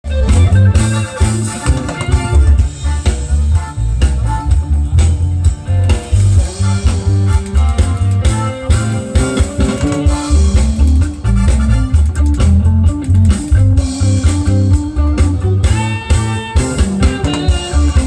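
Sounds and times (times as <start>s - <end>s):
band music with heavy bass: 0.0s - 18.0s.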